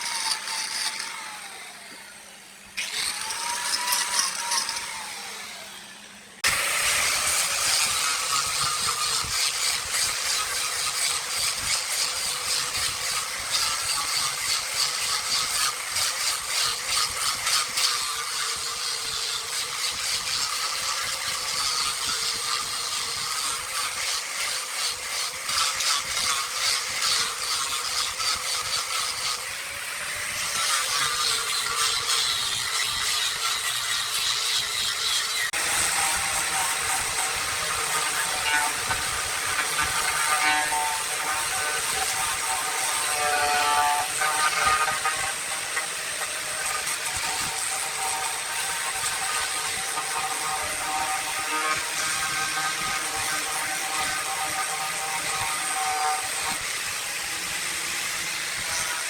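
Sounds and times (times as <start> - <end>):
wood lathe tool scraping: 0.0 - 59.0.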